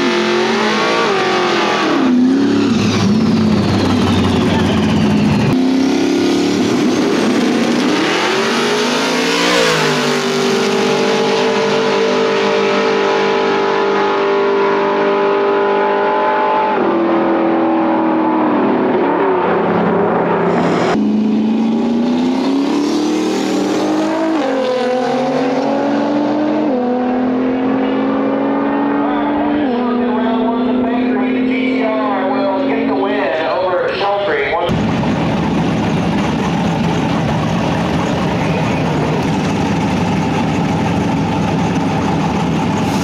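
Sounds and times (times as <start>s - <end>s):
drag racing car engines: 0.0s - 43.0s.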